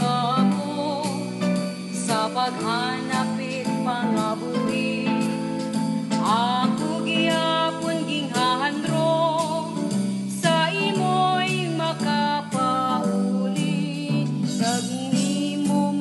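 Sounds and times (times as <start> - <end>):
percussion beat: 0.0 - 16.0.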